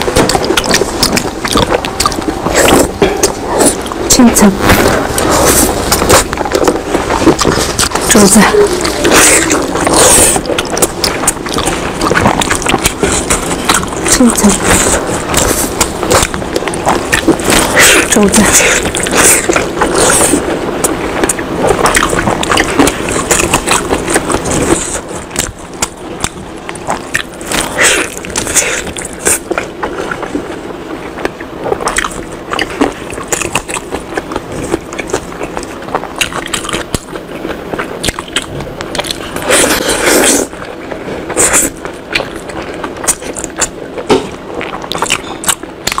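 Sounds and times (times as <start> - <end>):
person chewing meat: 0.0 - 46.0
meat tearing: 4.6 - 43.8.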